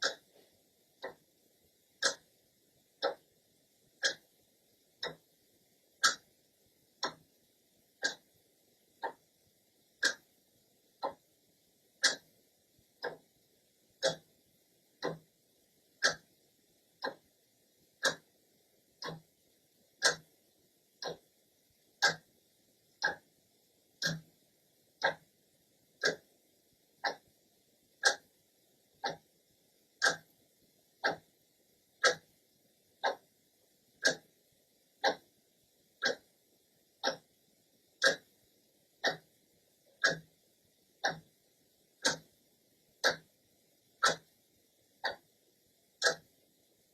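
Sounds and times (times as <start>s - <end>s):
clock ticking: 0.0s - 45.4s, 46.0s - 46.9s.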